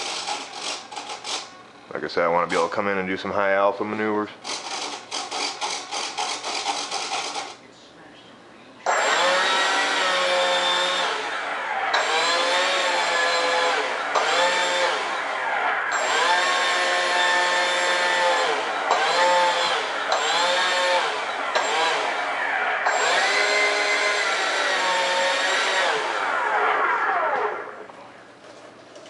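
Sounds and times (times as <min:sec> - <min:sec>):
electric fan high whine: 0:00.0 - 0:29.0.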